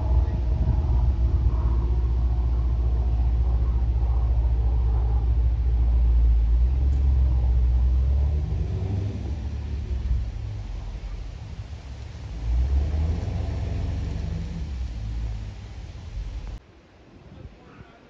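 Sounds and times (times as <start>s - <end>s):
aircraft low rumble: 0.0s - 16.7s.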